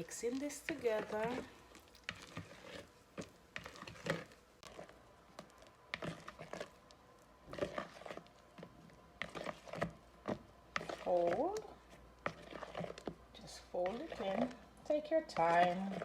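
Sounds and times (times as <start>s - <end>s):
spatula scraping a bowl: 0.0s - 6.8s, 7.5s - 16.0s
spatula squishing cream: 0.0s - 16.0s.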